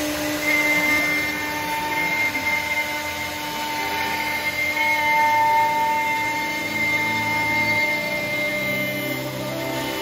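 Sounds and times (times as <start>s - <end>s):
router spindle whine: 0.0s - 10.0s
wood milling noise: 0.0s - 10.0s.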